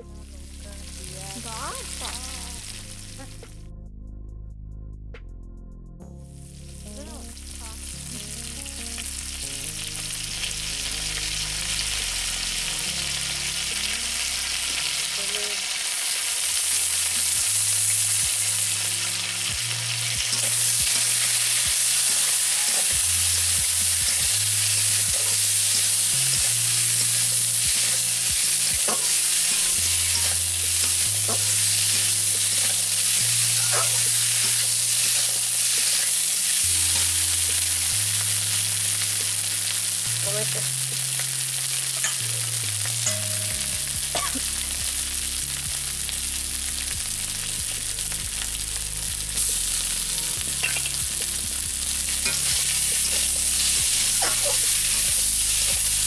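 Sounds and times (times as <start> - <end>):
vegetables sizzling in hot oil: 0.7 - 3.2, 7.4 - 56.0.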